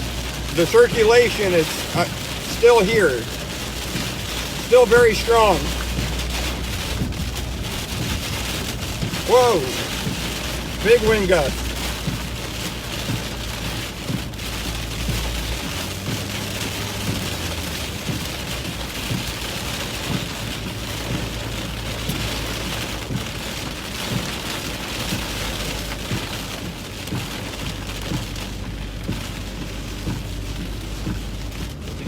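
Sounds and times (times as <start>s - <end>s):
heavy rain pelting a vehicle: 0.0s - 32.0s.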